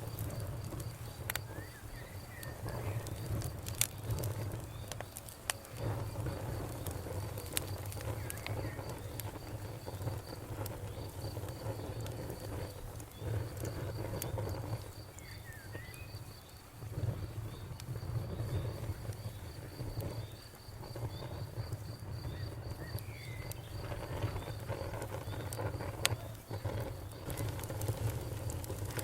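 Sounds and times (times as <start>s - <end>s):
campfire crackling: 0.0s - 29.0s
cricket chirping: 0.0s - 29.0s.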